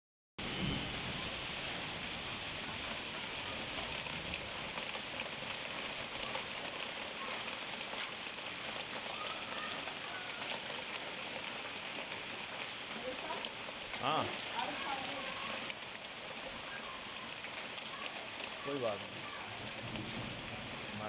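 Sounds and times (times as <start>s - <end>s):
heavy rain on pavement: 0.4s - 21.0s.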